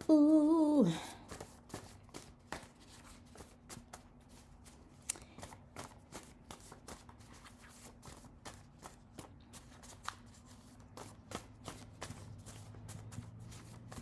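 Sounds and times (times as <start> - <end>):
cards being shuffled: 1.1 - 14.0.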